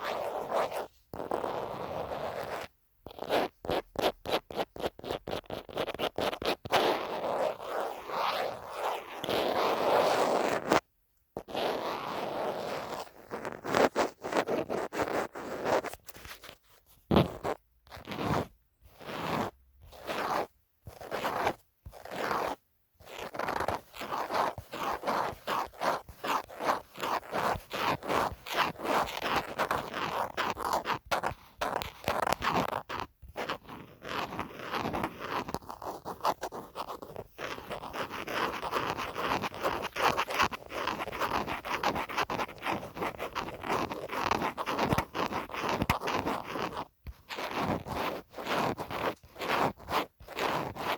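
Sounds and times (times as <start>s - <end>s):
scratching on a phone case: 0.0s - 10.8s, 11.4s - 50.9s.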